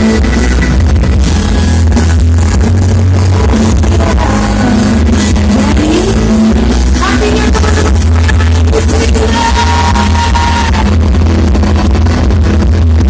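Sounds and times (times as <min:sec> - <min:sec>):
loud music with bass and guitar: 0:00.0 - 0:13.0.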